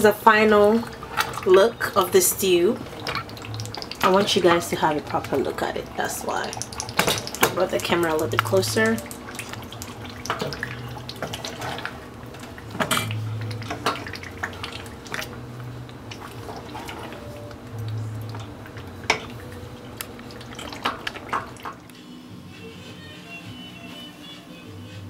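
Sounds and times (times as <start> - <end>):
sauce sloshing: 0.5 - 21.9.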